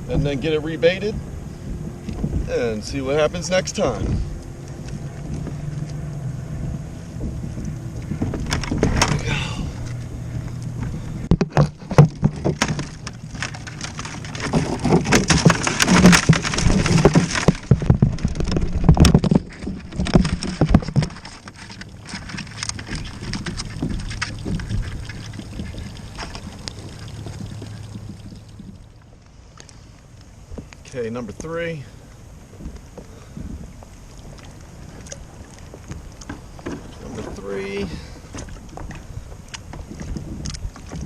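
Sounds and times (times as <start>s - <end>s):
low hum and hiss: 0.0s - 41.0s
water sloshing against kayak: 0.1s - 41.0s.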